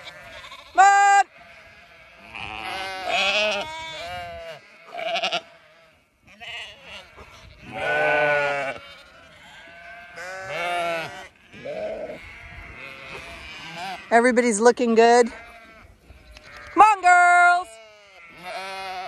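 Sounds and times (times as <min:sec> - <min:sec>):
sheep bleating: 0:00.0 - 0:14.4, 0:15.1 - 0:19.0.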